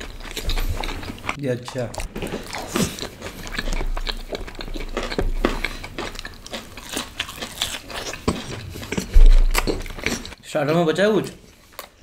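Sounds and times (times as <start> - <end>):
person chewing crunchy food: 0.0 - 10.4, 11.2 - 12.0.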